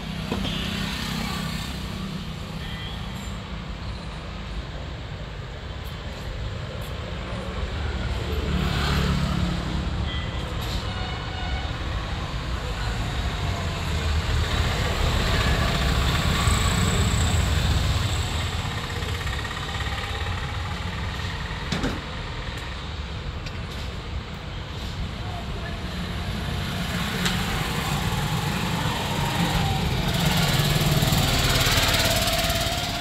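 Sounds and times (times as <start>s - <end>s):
rumble of passing vehicles: 0.0s - 33.0s.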